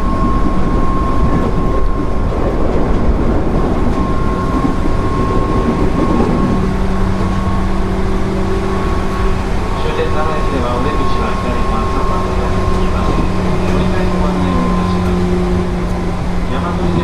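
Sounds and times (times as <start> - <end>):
low steady hum: 0.0 - 17.0
train wheels running on rails: 0.0 - 17.0.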